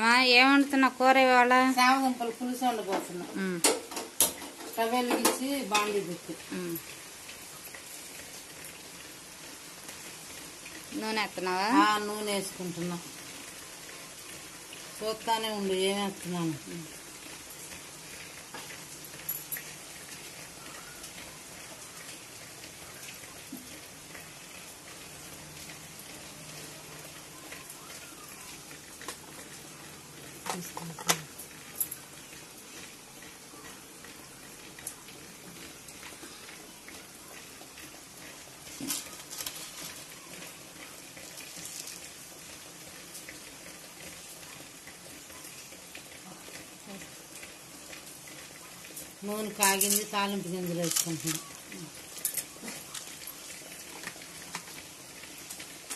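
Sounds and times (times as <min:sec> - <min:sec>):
oil crackling in a pan: 0:00.0 - 0:55.9.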